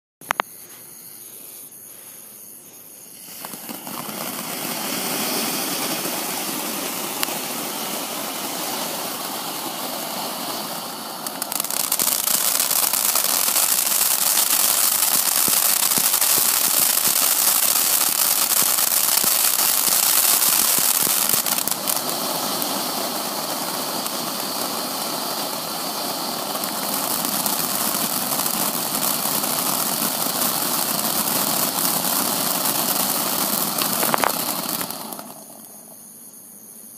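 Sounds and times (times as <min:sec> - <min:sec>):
firework fountain hissing: 0:03.1 - 0:36.3.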